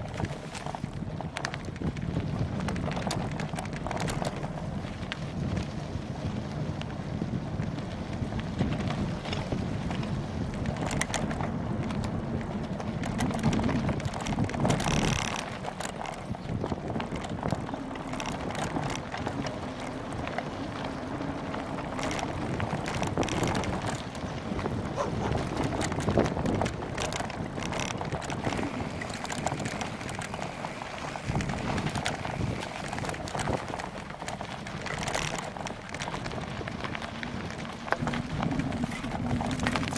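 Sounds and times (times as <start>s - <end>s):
bike frame rattling: 0.0s - 39.9s
wind buffeting microphone: 0.0s - 39.9s.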